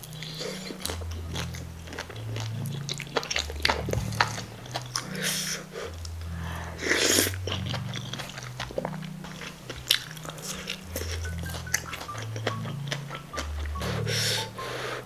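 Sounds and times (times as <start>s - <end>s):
background music with bass line: 0.0s - 15.0s
noodles being chewed: 0.0s - 15.0s
wet mouth noises: 0.0s - 15.0s.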